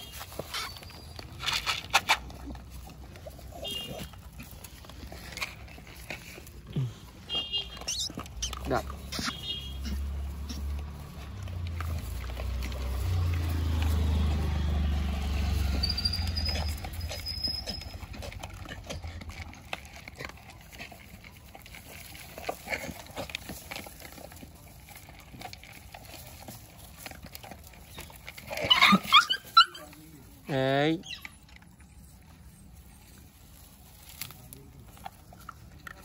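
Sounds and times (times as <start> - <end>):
dogs chewing dry kibble: 0.0 - 36.0.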